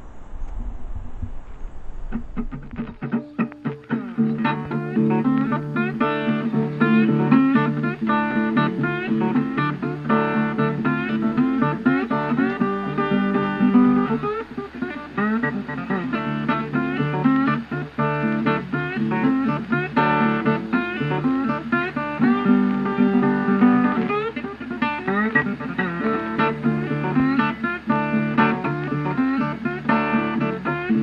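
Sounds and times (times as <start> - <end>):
plucked guitar music: 2.1 - 31.0.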